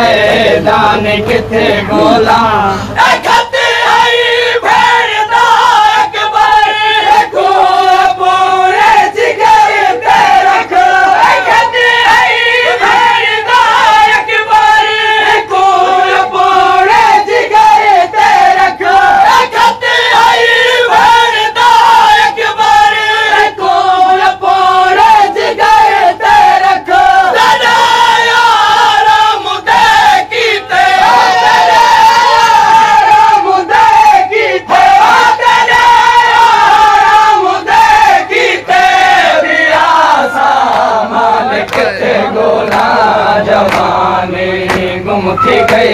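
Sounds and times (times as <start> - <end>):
crowd of men chanting a lament: 0.0 - 45.9.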